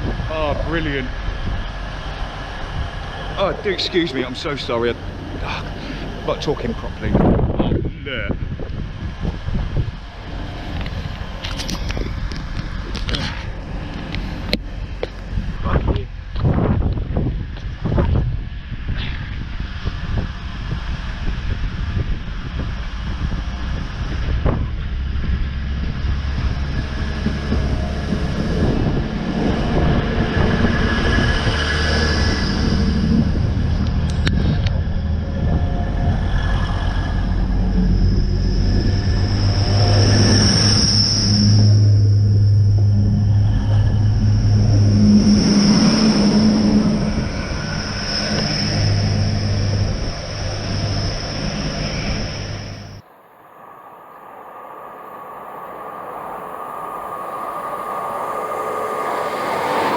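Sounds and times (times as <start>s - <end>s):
high metallic whine: 0.0s - 59.9s
train rumbling on rails: 0.0s - 59.9s.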